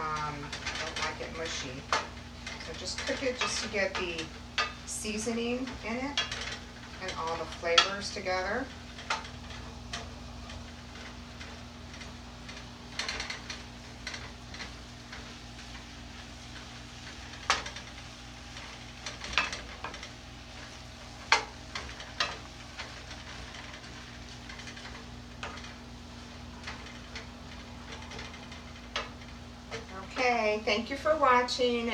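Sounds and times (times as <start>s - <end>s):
steady low hum: 0.0s - 31.9s
vegetables sizzling: 0.0s - 31.9s
wooden spoon scraping a pan: 0.0s - 31.9s.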